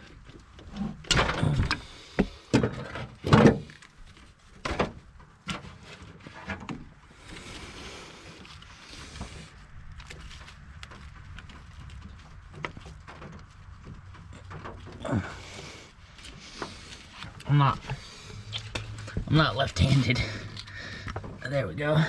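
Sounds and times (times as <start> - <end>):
knocks and scrapes in engine bay: 0.0 - 21.9
soft rustling: 3.8 - 21.5.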